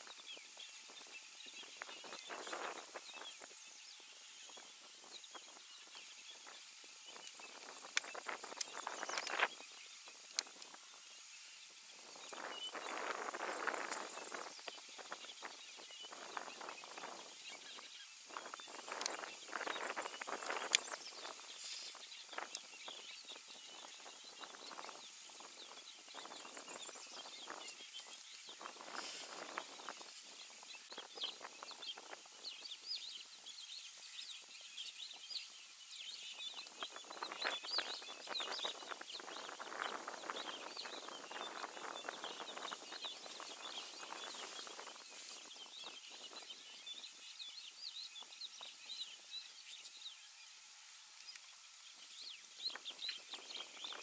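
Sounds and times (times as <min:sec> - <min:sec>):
crackling rustles: 0:00.0 - 0:34.1, 0:36.3 - 0:47.2
birds chirping: 0:00.0 - 0:54.0
steady high-pitched whine: 0:00.0 - 0:54.0.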